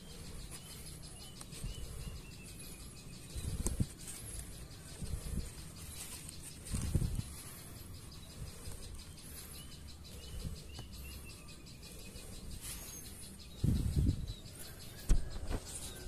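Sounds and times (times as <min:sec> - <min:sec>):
rustling near microphone: 0:00.0 - 0:11.1, 0:11.8 - 0:16.0
small bird chirping faintly: 0:00.0 - 0:16.0.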